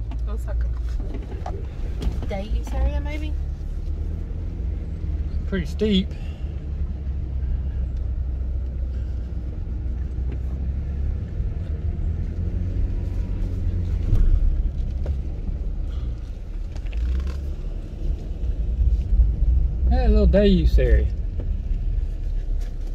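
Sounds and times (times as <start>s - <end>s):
tyres on dirt road: 0.0s - 22.9s
vehicle engine rumble: 0.0s - 22.9s.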